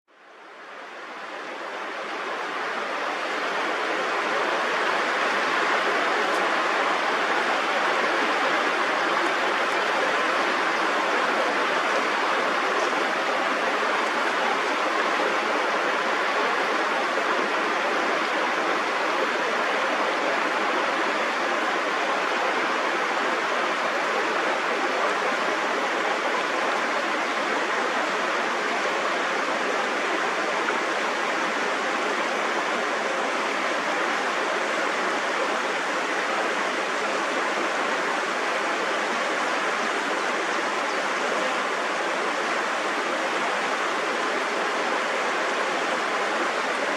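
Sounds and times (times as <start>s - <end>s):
rushing water: 0.1s - 46.9s.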